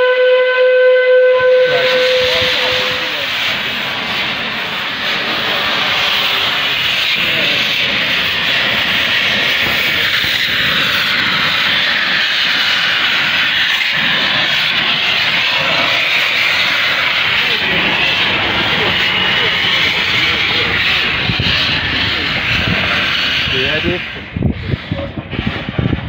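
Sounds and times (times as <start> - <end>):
steam locomotive venting steam: 0.0 - 26.0.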